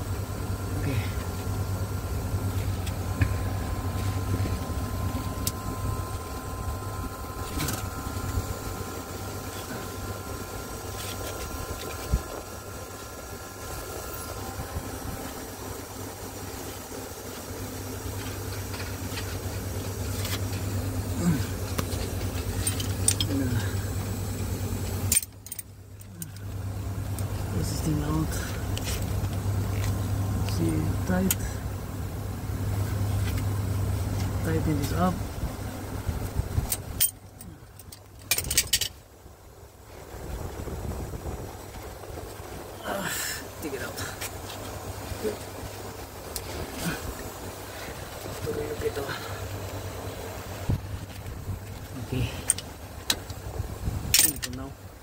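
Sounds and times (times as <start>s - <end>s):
low handling rumble: 0.0s - 55.0s.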